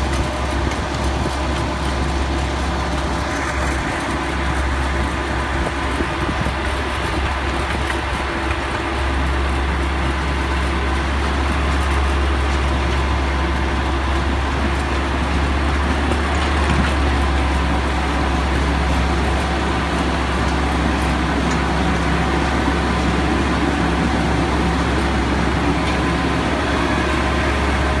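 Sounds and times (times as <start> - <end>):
miniature train engine droning: 0.0 - 28.0.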